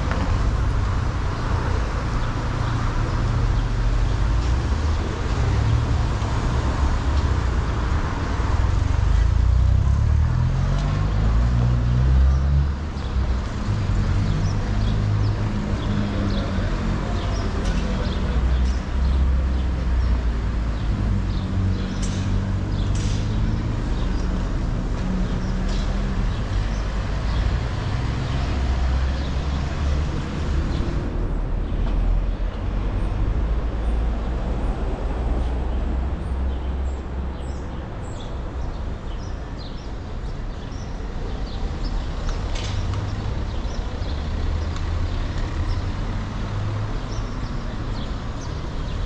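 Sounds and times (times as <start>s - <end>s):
traffic rumble: 0.0s - 49.0s.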